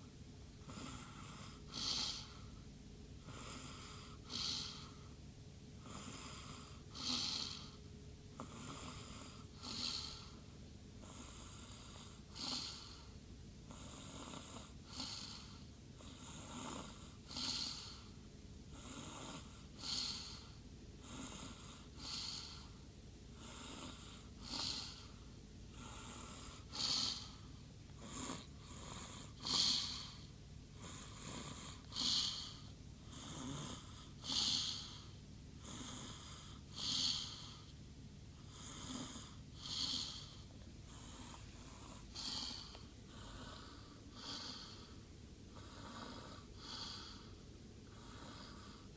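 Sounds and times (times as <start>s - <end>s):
soft breaths: 0.0s - 48.9s.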